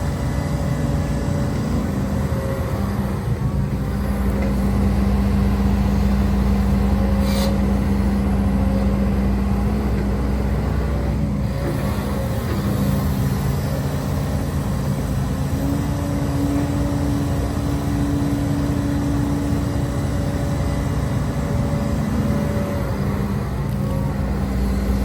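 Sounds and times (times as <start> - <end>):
excavator diesel engine running: 0.0 - 25.0
hydraulics whine: 0.0 - 25.0.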